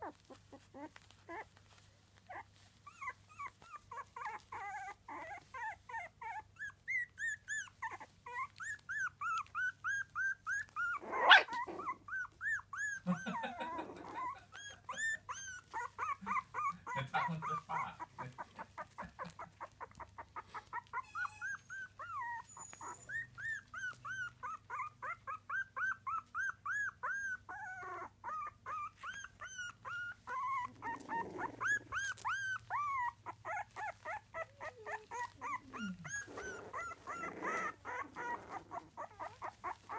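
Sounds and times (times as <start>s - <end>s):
puppies whimpering and squeaking: 0.0s - 39.9s.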